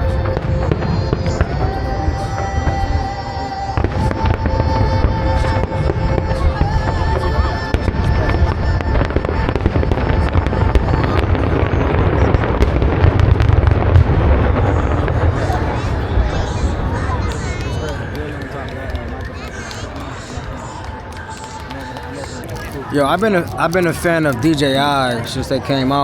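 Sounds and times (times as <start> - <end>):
music with long held notes: 0.0 - 23.7
fireworks bursting and crackling: 0.0 - 26.0
fireworks deep booms: 0.1 - 22.7.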